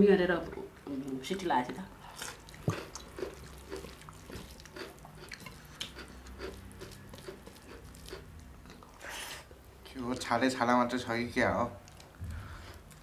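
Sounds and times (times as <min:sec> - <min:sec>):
wet chewing smacks: 0:00.4 - 0:09.8, 0:11.8 - 0:13.0.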